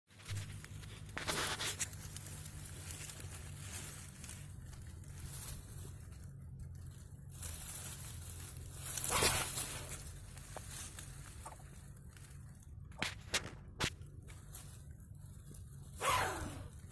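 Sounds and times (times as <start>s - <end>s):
ferns and dry grass rustling: 0.1s - 16.9s.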